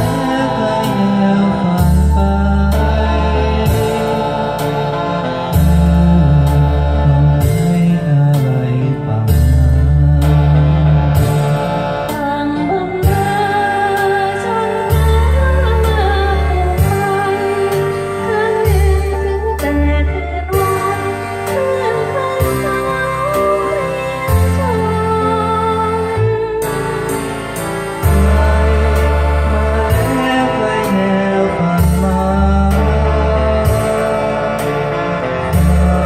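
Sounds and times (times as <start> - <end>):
song with bass line and chords: 0.0 - 36.0.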